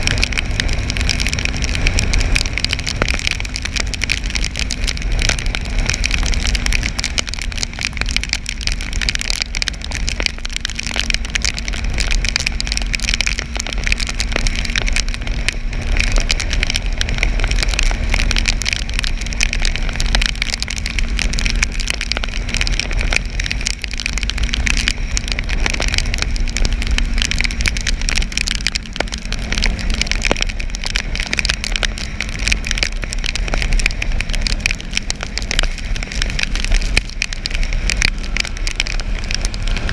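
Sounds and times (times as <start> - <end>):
rain and tyre spray hiss: 0.0 - 39.9
wind rumble on microphone: 0.0 - 39.9.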